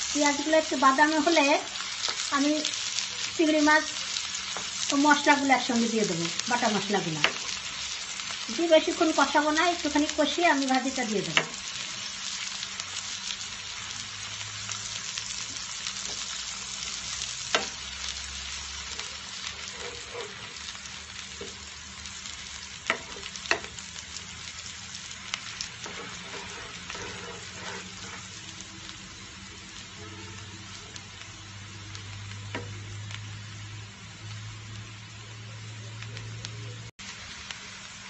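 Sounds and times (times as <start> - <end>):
onion sizzling in oil: 0.0 - 38.0.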